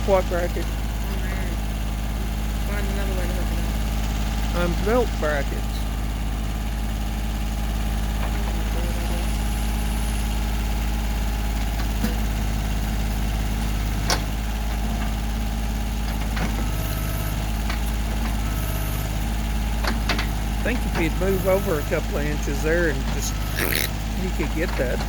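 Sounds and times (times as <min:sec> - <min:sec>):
diesel tractor engine idling: 0:00.0 - 0:25.0.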